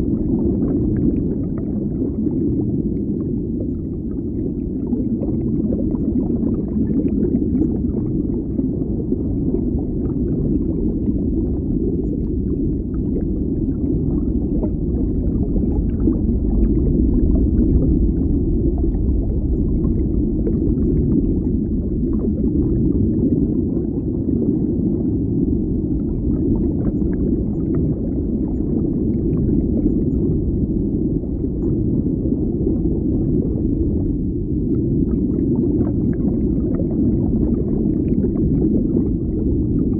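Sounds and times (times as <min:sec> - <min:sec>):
low rumble of moving water: 0:00.0 - 0:39.9.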